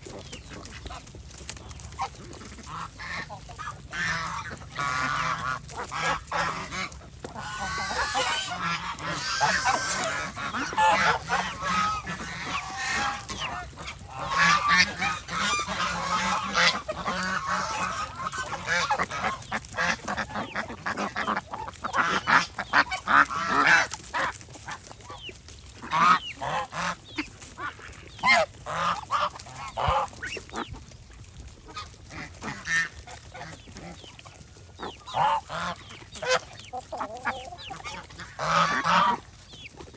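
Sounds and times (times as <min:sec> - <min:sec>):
geese honking: 0:00.0 - 0:30.8, 0:31.6 - 0:39.9.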